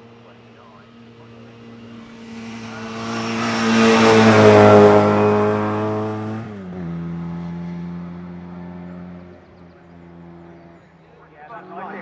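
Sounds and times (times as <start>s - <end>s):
racing car passing at full throttle: 0.0s - 12.0s.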